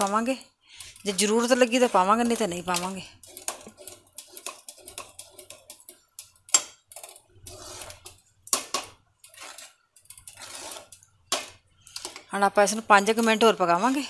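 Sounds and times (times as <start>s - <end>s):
ladle scraping metal pot: 0.8s - 14.0s.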